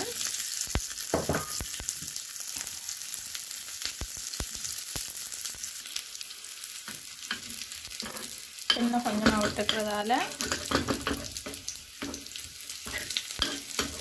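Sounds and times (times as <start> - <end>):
shallots sizzling in oil: 0.0 - 14.0
sharp pops from frying: 0.0 - 14.0.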